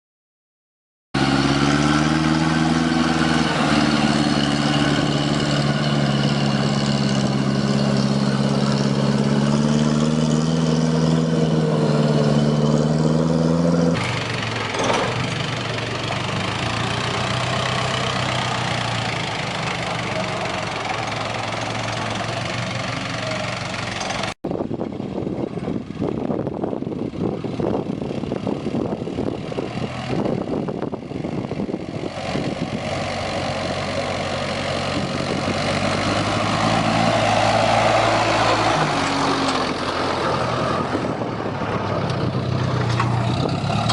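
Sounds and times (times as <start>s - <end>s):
truck engine running: 1.2s - 43.9s.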